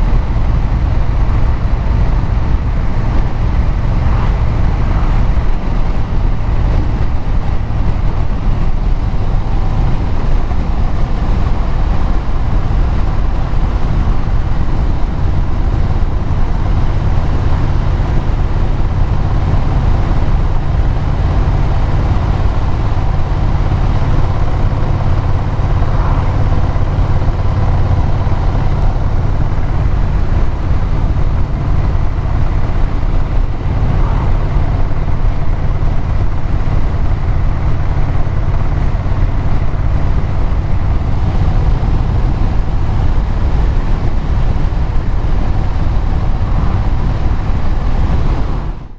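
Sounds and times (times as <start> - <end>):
road and wind noise: 0.0 - 48.9
vehicle engine cruising: 0.0 - 48.9.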